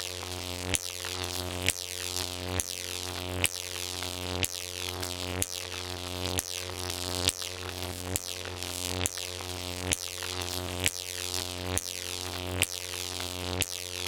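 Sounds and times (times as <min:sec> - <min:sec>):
electric arc buzzing: 0:00.0 - 0:14.0
sharp electric arc crack: 0:00.1 - 0:13.7.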